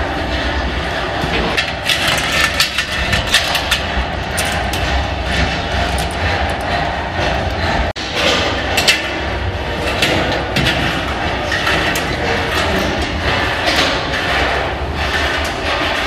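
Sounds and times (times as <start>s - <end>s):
steady rumbling hum: 0.0s - 16.0s.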